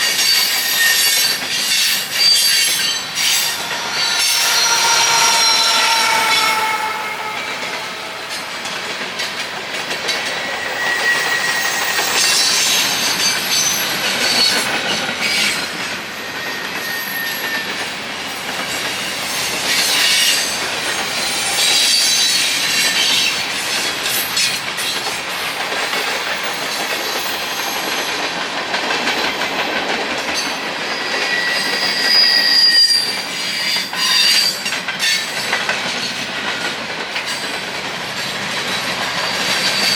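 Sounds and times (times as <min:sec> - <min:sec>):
train wheels on rails: 0:00.0 - 0:39.9
train wheels squealing: 0:00.0 - 0:39.9.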